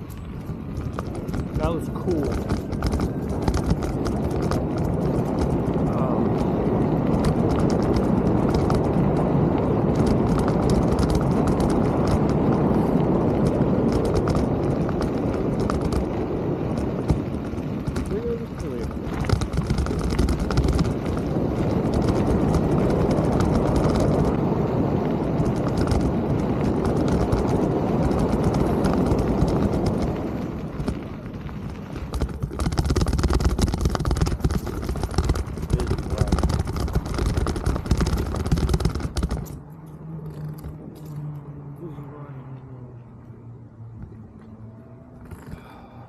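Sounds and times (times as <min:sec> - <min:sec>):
bike rattling and knocking: 0:00.0 - 0:41.8, 0:43.8 - 0:46.0
wind and tyre noise: 0:00.0 - 0:46.0.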